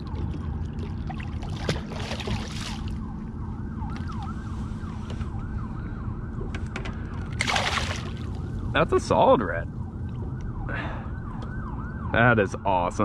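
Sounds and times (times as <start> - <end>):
distant yelping siren: 0.0 - 13.0
steady low hum: 0.0 - 13.0.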